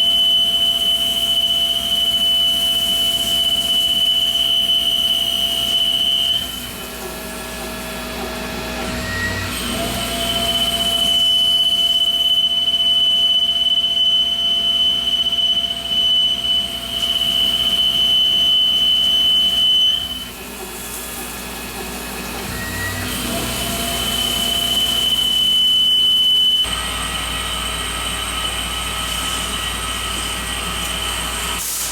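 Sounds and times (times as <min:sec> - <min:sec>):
lathe cutting steel whine: 0:00.0 - 0:31.6.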